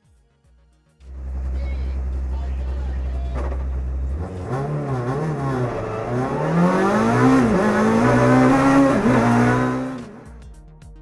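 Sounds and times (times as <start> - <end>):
racing car engine revving: 1.1 - 10.4.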